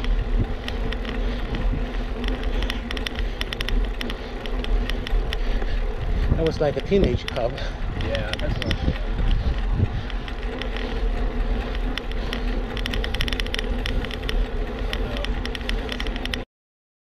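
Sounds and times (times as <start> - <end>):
bicycle tyres rolling on asphalt: 0.0 - 16.4
wind rumbling on microphone: 0.0 - 16.4.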